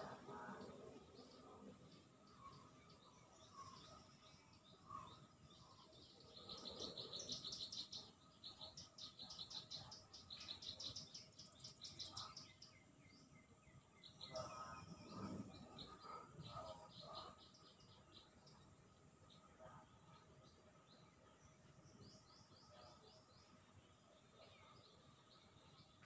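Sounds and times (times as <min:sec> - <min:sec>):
faint birdsong chirps: 0:00.0 - 0:26.0.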